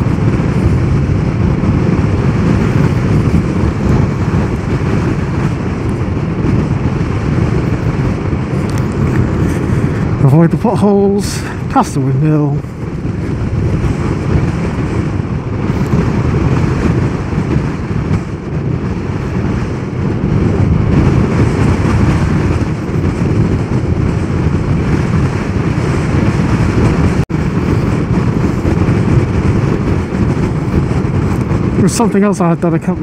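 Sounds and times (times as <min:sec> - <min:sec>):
road noise: 0:00.0 - 0:33.0
wind rush over microphone: 0:00.0 - 0:33.0.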